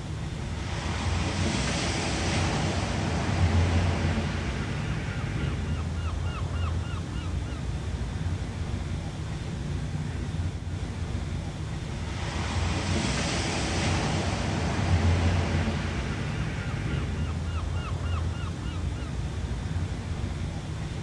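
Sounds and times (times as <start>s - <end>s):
wave washing in: 0.0s - 6.9s, 7.7s - 21.0s
low rumble of surf: 0.0s - 21.0s.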